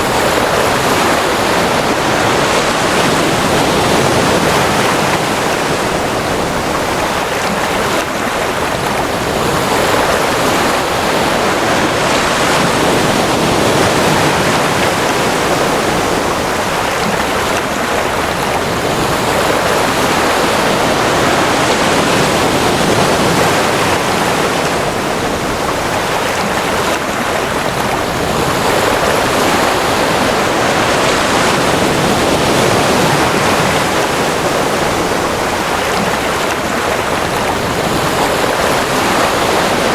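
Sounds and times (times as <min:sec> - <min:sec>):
ocean waves surf: 0:00.0 - 0:39.9.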